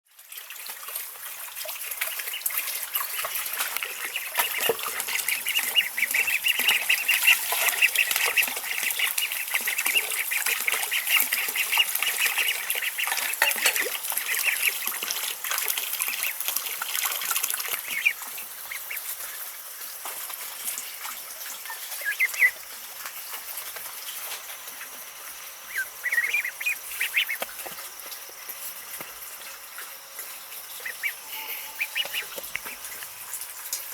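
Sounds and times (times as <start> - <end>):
ducklings peeping: 1.4 - 33.9.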